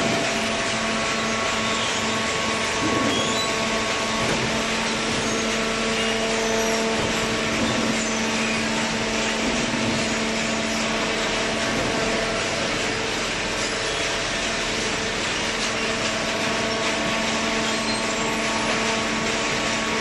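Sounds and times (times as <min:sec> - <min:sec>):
hydraulic baler running: 0:00.0 - 0:20.0.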